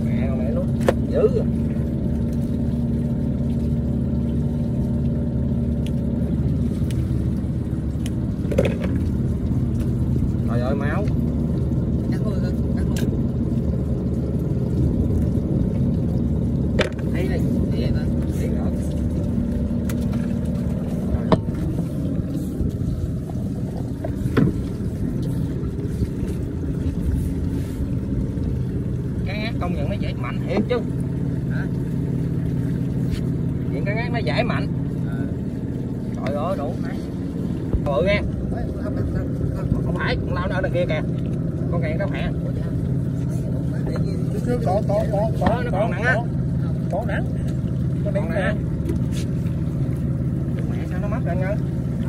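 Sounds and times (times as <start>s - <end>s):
boat engine droning: 0.0s - 52.0s.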